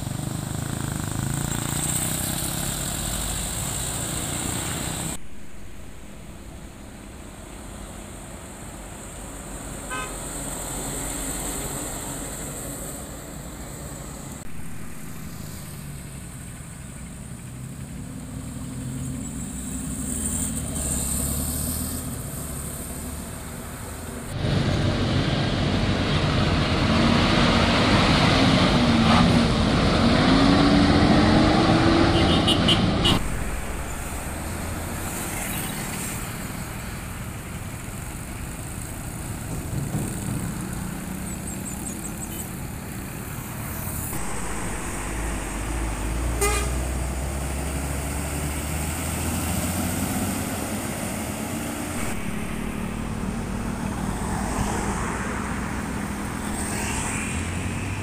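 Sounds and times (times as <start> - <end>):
heavy truck diesel engine accelerating: 0.0 - 58.0
traffic passing: 0.0 - 58.0.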